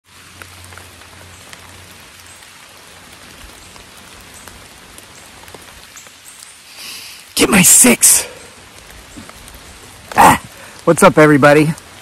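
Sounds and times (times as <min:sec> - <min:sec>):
raindrops ticking: 0:00.0 - 0:12.0
steady rain in woodland: 0:00.0 - 0:12.0.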